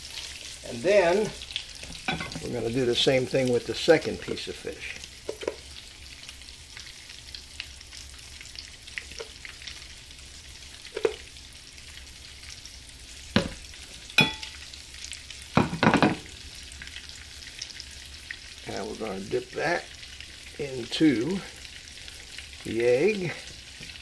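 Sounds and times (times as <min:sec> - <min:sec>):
fish sizzling in grease: 0:00.0 - 0:24.0.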